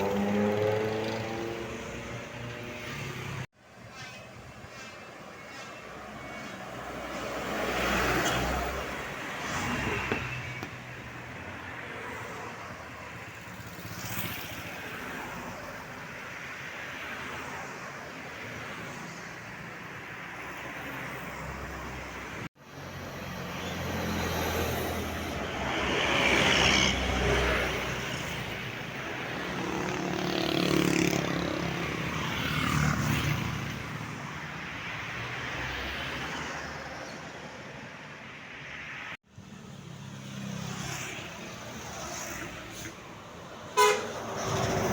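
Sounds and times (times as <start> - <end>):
buses passing on road: 0.0 - 44.9.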